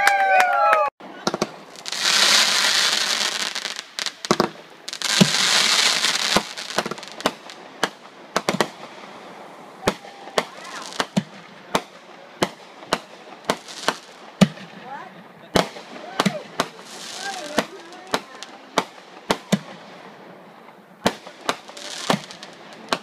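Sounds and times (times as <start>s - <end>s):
fireworks crackling hiss: 1.0s - 23.0s
fireworks sharp bangs: 1.0s - 23.0s.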